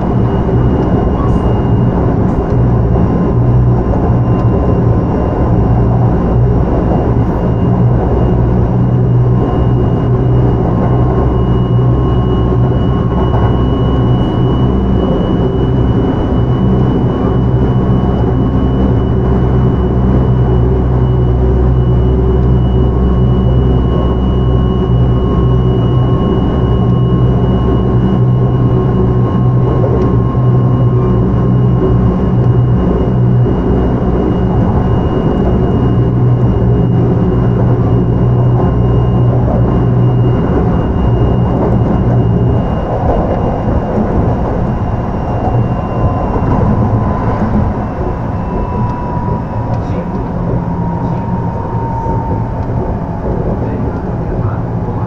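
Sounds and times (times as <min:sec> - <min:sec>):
deep hum: 0:00.0 - 0:55.0
high inverter whine: 0:00.0 - 0:55.0
train wheels rumbling on rail: 0:00.0 - 0:55.0.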